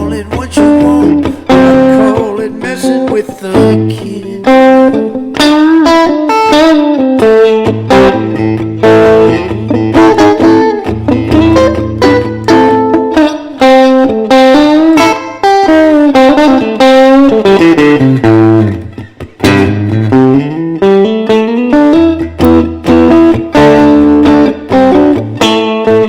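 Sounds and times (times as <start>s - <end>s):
electric guitar blues solo: 0.0s - 26.0s.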